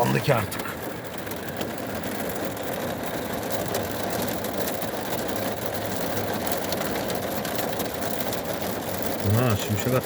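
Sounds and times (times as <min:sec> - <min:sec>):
hail ticks: 0:00.0 - 0:10.0
heavy rain pouring: 0:00.0 - 0:10.0.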